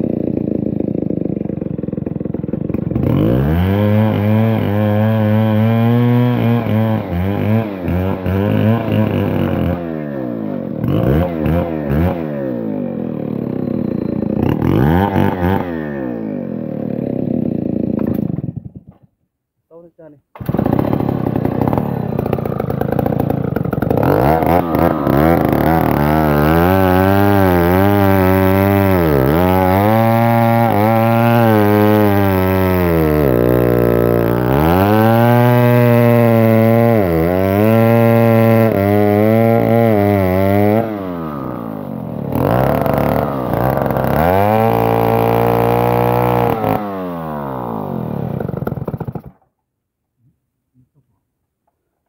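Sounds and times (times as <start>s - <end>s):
chainsaw cutting log: 0.0s - 19.1s, 20.3s - 49.6s.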